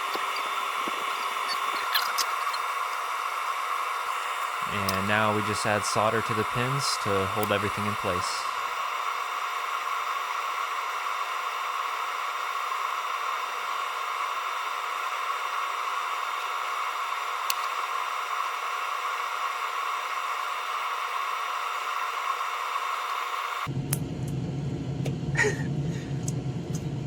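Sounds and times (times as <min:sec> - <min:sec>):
electric fan hiss: 0:00.0 - 0:23.7.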